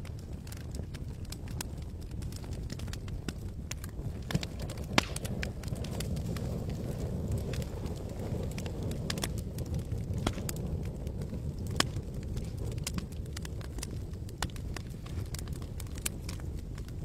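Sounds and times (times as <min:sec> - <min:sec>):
fire crackling and popping: 0:00.0 - 0:17.0
low rush of flame: 0:00.0 - 0:17.0.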